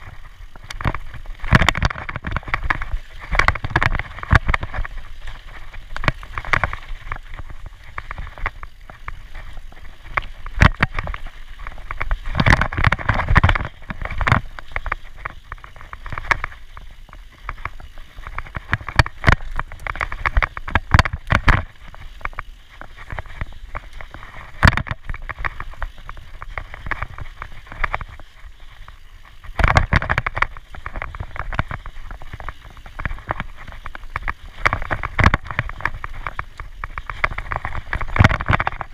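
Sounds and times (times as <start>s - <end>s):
bike knocking and rattling: 0.0s - 38.9s.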